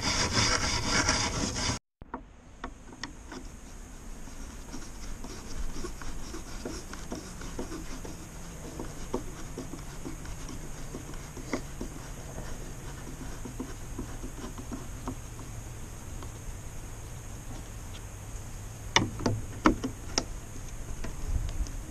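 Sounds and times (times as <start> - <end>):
low background noise: 1.2 - 21.9.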